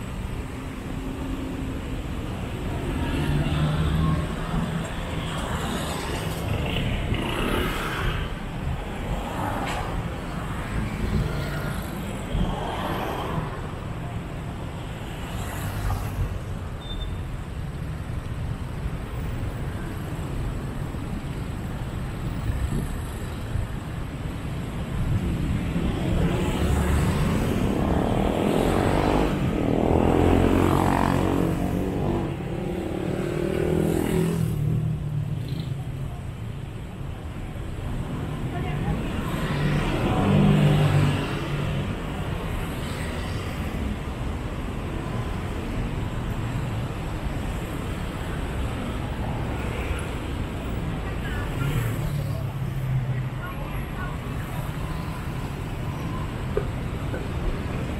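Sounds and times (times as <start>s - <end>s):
rumble of passing traffic: 0.0s - 57.9s.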